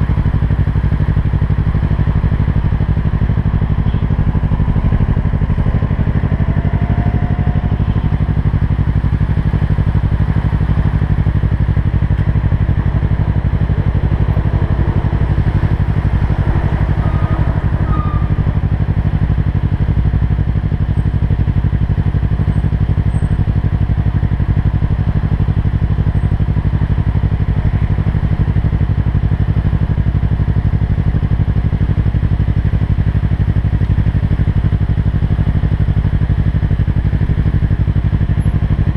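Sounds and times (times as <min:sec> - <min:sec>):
motorcycle engine running steadily: 0:00.0 - 0:38.9.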